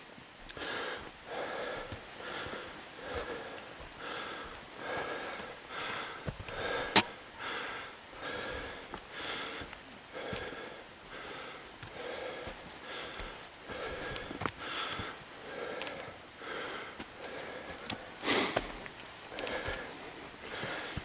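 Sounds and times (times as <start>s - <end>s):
man breathing heavily: 0.4s - 21.0s.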